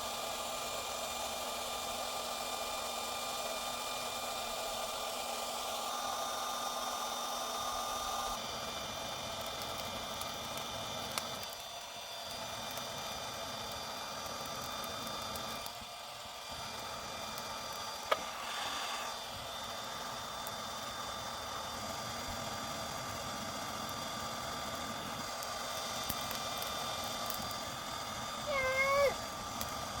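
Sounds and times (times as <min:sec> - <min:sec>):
blower motor whirring: 0:00.0 - 0:30.0.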